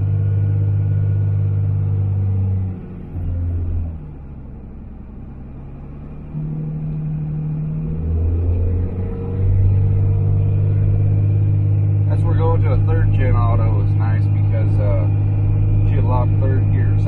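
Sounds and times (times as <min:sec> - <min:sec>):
diesel truck engine drone: 0:00.0 - 0:17.0.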